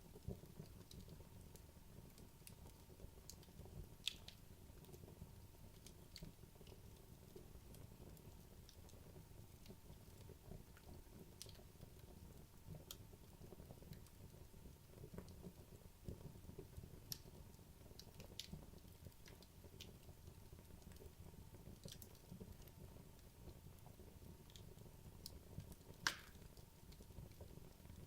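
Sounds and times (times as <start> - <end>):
burning logs crackling and popping: 0.0 - 28.0.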